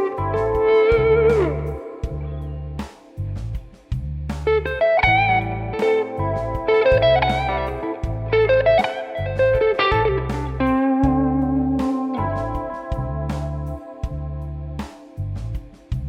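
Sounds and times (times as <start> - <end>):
electric guitar playing: 0.0 - 3.3, 4.4 - 15.9
bass pulsing: 0.1 - 16.0.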